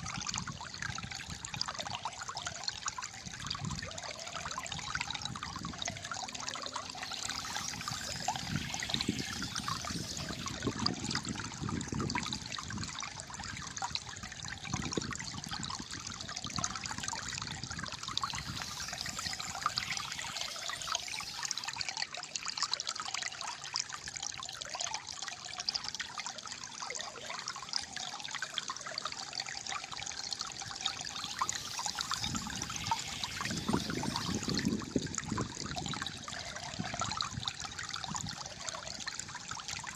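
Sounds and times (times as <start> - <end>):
water gurgling over stones: 0.0 - 39.9.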